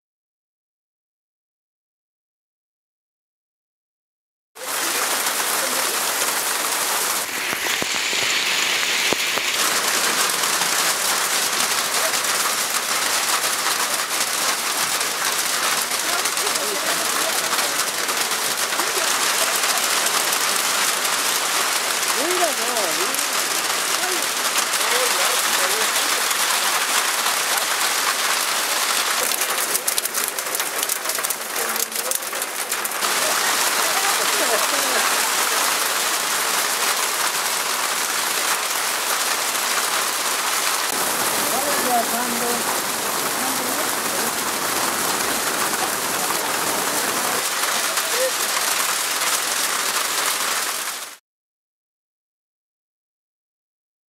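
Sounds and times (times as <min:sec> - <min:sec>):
heavy hail falling: 0:04.6 - 0:51.2.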